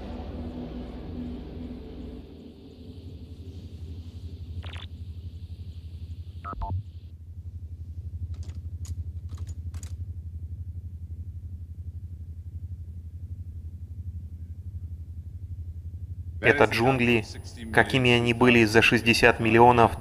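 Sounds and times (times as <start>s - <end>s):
low pulsing throb: 0.0s - 8.4s, 10.0s - 20.0s.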